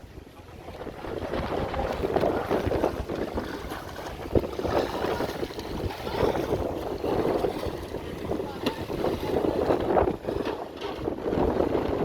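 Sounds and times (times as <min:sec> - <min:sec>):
water and boat noise: 0:00.0 - 0:12.0
wind buffeting microphone: 0:00.0 - 0:12.0.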